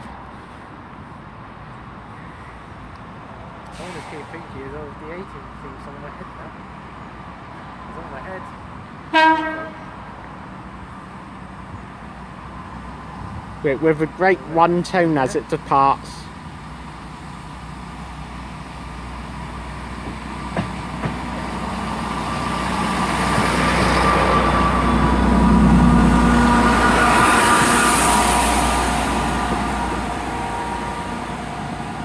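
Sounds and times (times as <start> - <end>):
diesel train engines: 0.0 - 32.0.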